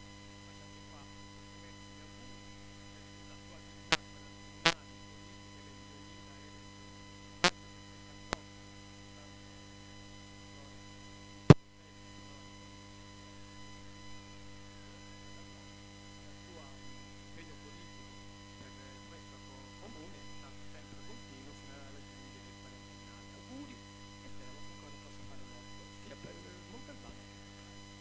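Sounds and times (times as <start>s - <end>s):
mains hum and buzz: 0.0s - 28.0s.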